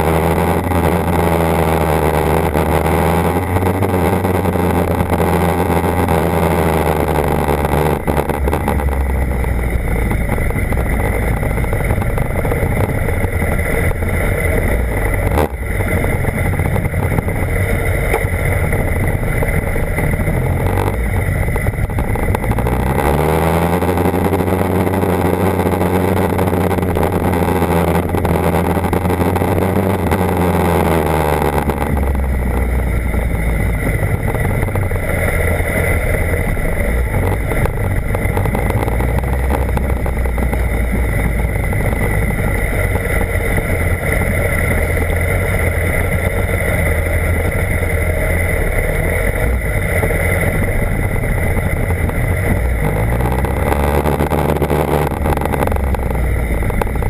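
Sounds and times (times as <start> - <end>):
low engine rumble: 0.0 - 57.0
motorcycle engine running: 0.0 - 57.0.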